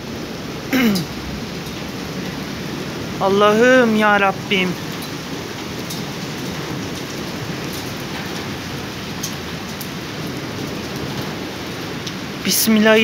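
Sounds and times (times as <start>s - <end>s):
heavy rain on a street: 0.0s - 13.0s
raindrops ticking: 0.1s - 13.0s.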